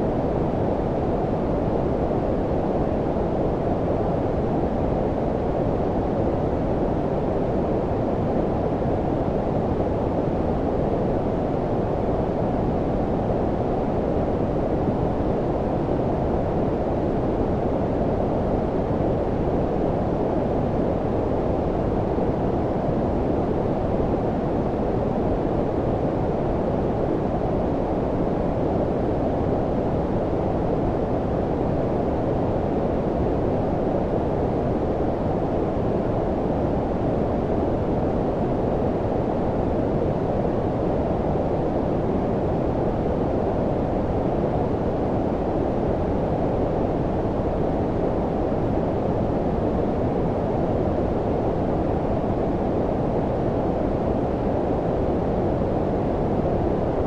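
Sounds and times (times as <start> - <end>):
low brown noise rush: 0.0 - 57.0.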